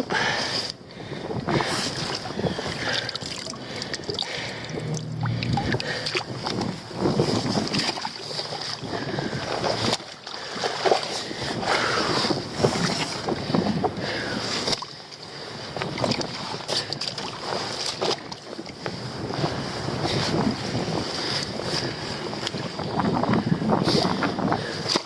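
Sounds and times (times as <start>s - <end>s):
seawater sloshing among rocks: 0.0s - 25.0s
wind buffeting microphone: 0.0s - 25.0s.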